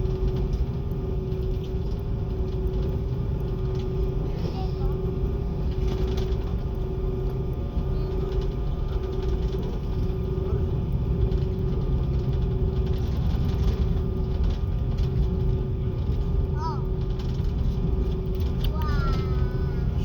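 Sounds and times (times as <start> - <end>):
airliner engines rumbling: 0.0 - 20.0
faint pulsing hum: 0.0 - 20.0.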